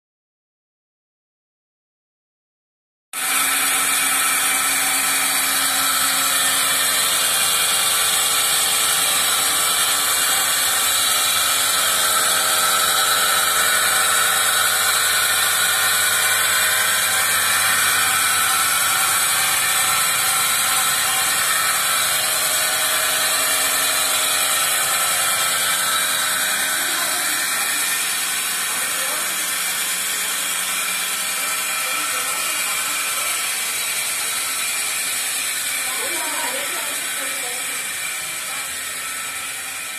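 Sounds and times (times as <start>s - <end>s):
vacuum pump hissing and humming: 3.2s - 39.9s.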